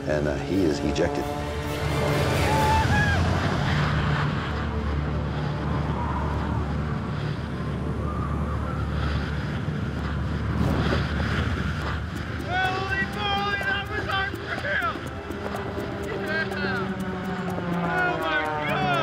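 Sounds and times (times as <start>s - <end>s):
freefall wind buffeting microphone: 0.0s - 19.0s.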